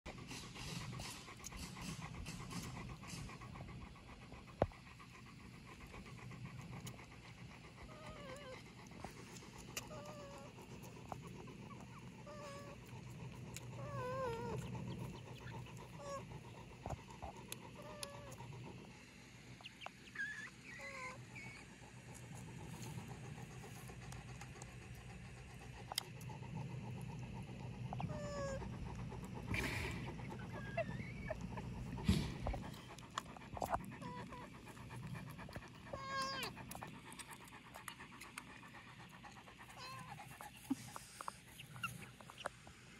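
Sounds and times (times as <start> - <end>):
dog panting: 0.1 - 42.9.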